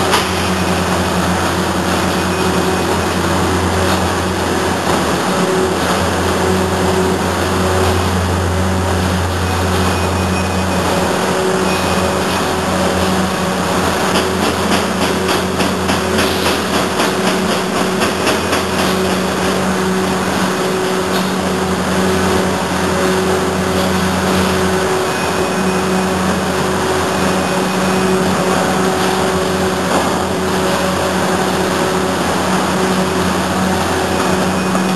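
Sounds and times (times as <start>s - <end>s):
industrial machine hum: 0.0s - 34.9s.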